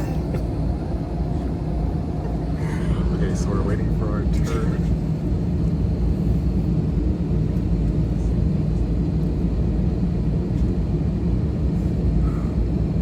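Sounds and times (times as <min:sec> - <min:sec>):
aircraft cabin noise: 0:00.0 - 0:13.0
airliner engines rumbling: 0:00.0 - 0:13.0.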